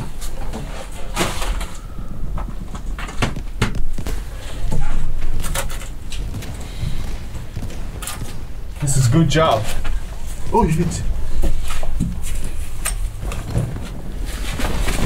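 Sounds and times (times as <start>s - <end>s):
steady low rumble: 1.6s - 15.0s.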